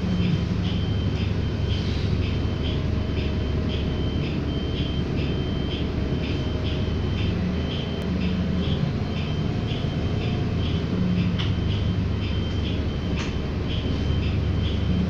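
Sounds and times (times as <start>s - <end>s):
bus engine rumble: 0.0s - 15.0s
high electronic beep: 0.2s - 15.0s.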